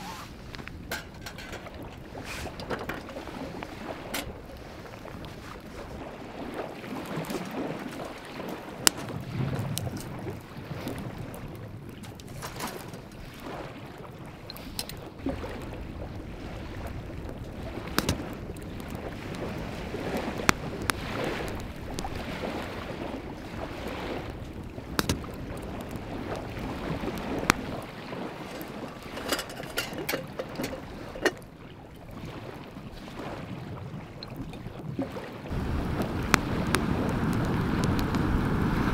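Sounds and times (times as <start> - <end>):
wind on microphone: 0.0 - 38.9
wood fire crackling and popping: 0.5 - 32.5, 35.4 - 38.9.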